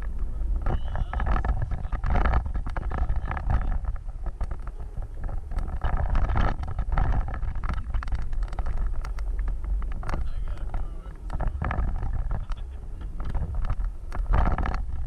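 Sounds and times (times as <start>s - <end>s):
knocks and rattles: 0.0s - 15.0s
vehicle driving off-road rumbling: 0.0s - 15.0s.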